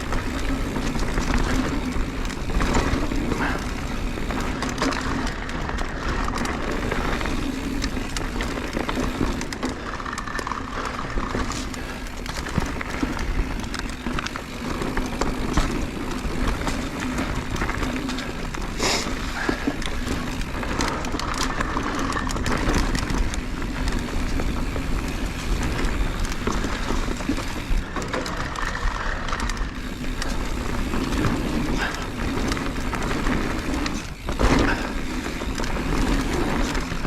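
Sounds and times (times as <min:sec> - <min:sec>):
bike rattling over rocks: 0:00.0 - 0:37.0
bike tyres rolling: 0:00.0 - 0:37.0.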